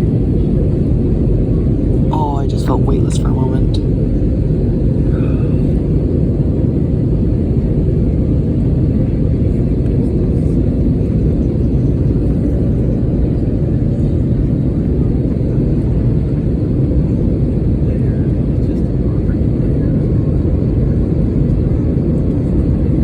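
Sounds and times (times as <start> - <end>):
airliner cabin roar: 0.0 - 23.0.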